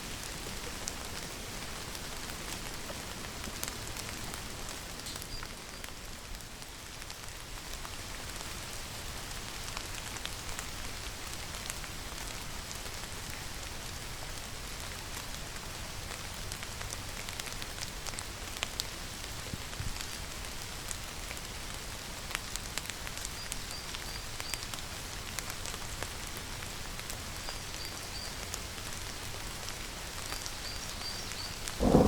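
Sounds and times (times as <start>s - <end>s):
steady rainfall: 0.0s - 32.0s.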